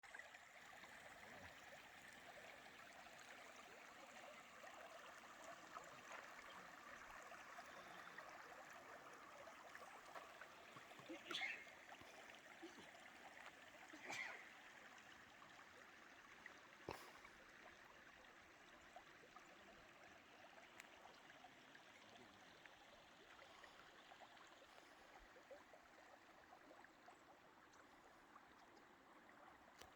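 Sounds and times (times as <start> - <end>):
faint trickling water: 0.0 - 29.9.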